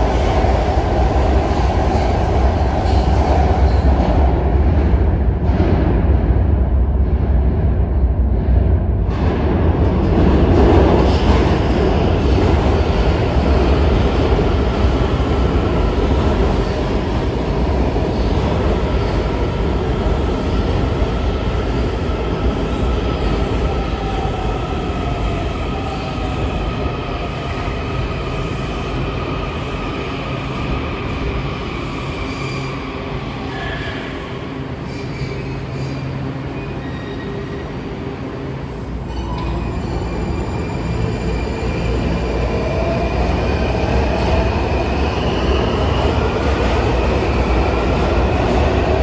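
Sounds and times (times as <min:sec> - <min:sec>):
train rumbling into station: 0:00.0 - 0:49.0.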